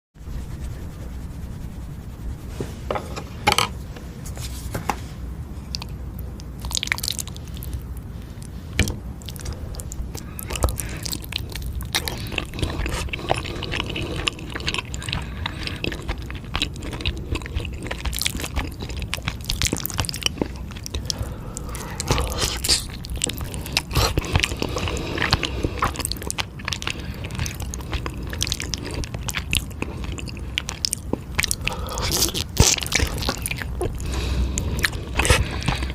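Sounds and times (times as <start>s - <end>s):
person biting and chewing: 5.7s - 35.9s.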